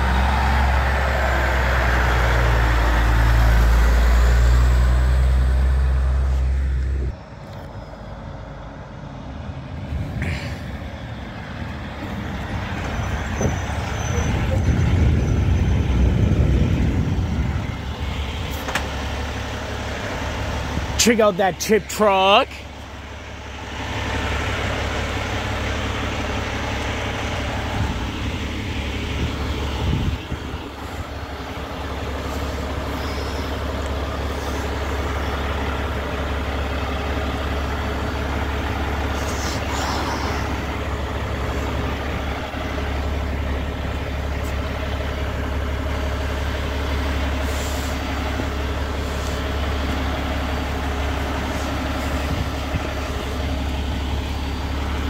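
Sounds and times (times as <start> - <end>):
trucks passing with diesel rumble: 0.0 - 55.0.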